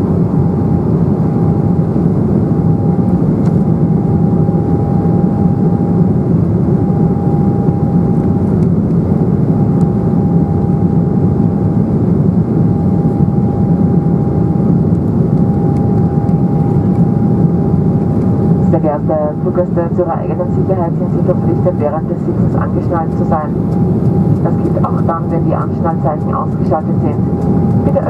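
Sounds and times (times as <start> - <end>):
airplane cabin rumble: 0.0 - 28.0.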